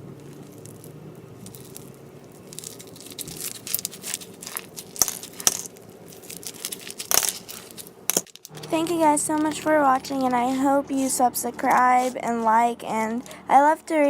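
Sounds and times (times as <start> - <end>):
slime crackling and crunching: 0.0 - 13.4.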